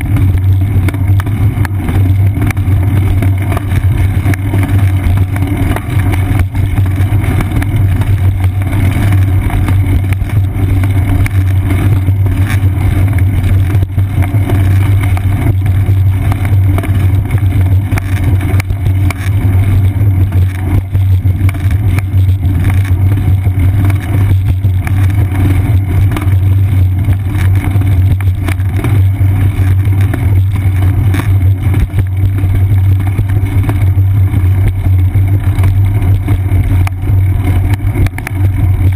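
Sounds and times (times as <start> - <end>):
tyre on pavement vibration: 0.0 - 38.9.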